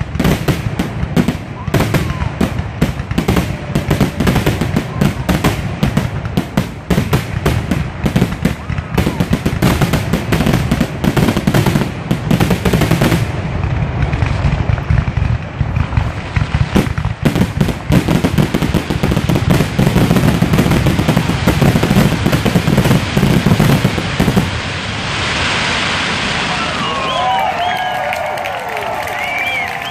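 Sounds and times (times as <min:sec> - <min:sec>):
fireworks bangs and crackles: 0:00.0 - 0:29.9.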